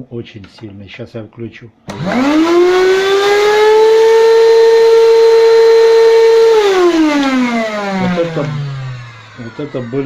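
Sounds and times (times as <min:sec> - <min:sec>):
vacuum cleaner motor whining: 0:01.9 - 0:10.0.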